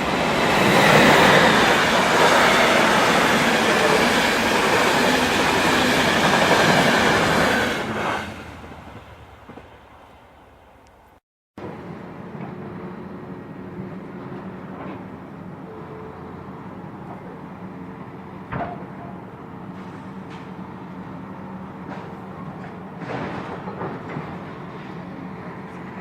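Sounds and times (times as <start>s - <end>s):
train running past: 0.0s - 10.8s, 11.6s - 26.0s.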